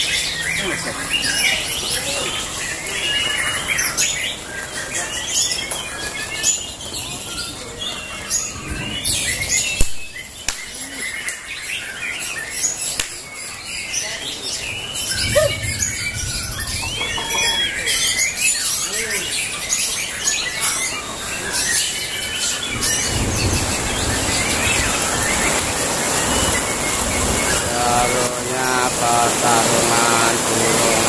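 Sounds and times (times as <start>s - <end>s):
birds singing whistles and trills: 0.0s - 31.0s.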